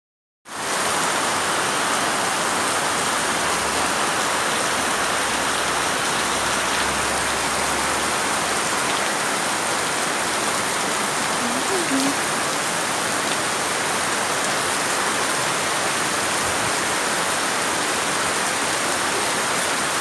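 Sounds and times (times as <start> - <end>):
steady rain hissing: 0.5 - 20.0.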